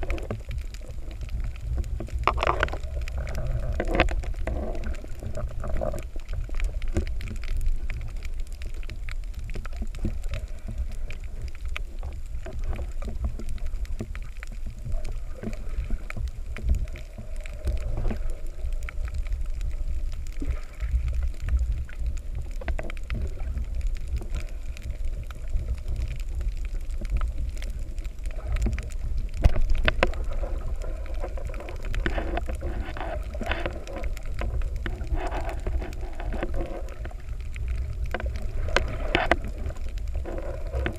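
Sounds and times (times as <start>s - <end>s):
short clicks and crackles: 0.0s - 40.9s
underwater low rumble: 0.0s - 40.9s.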